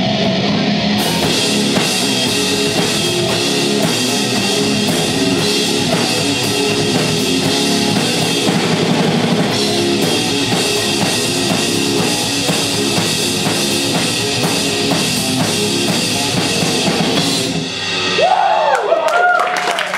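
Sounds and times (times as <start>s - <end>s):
metal band playing: 0.0s - 18.6s.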